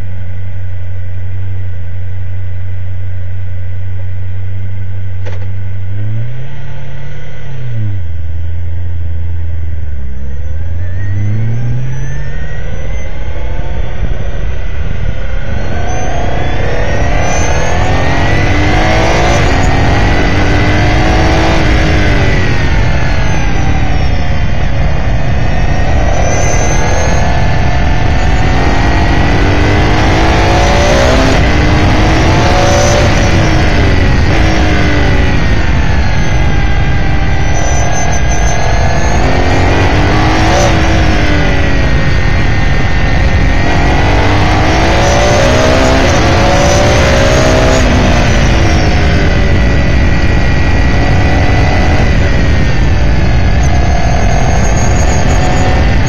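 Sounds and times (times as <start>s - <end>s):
low rumble: 0.0s - 56.0s
race car engine revving: 5.2s - 56.0s.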